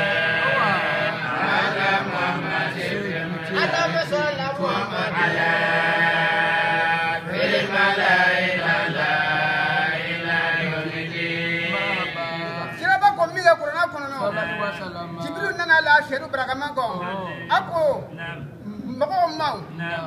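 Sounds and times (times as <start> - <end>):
man chanting a hymn: 0.0 - 20.0.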